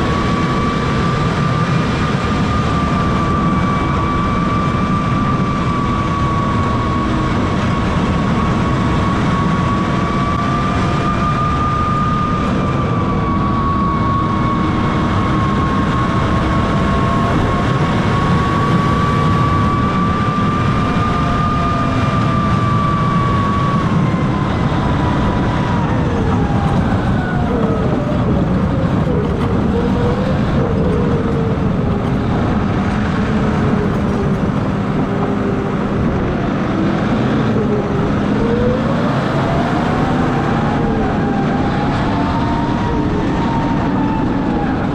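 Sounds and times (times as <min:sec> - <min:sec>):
tractor engine rumbling with whine: 0:00.0 - 0:44.9.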